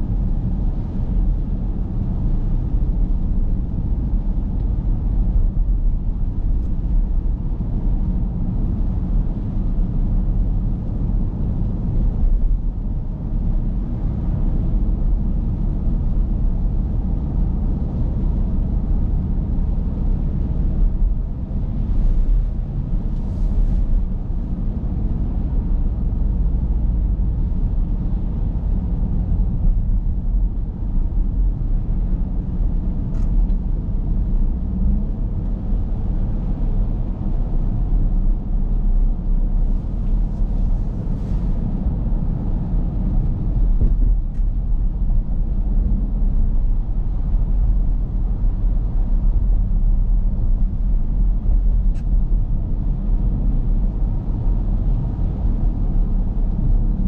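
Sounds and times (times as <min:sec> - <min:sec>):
road and engine noise in car: 0:00.0 - 0:57.0.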